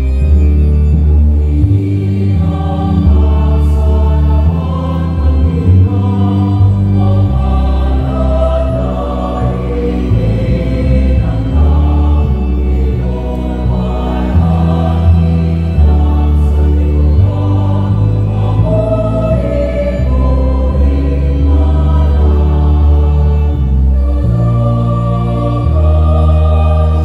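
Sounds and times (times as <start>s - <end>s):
choir singing a hymn: 0.0s - 27.0s
long held low bass notes: 0.0s - 27.0s.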